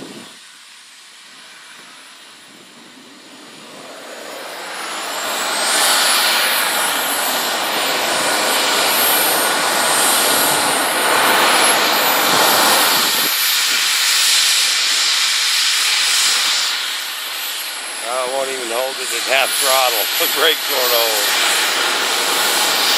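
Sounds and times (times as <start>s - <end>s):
model jet turbines whining: 0.0s - 22.9s.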